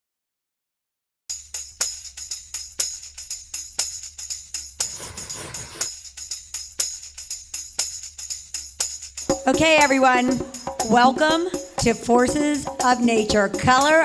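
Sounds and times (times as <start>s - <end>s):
music with tambourine beat: 1.3s - 14.0s.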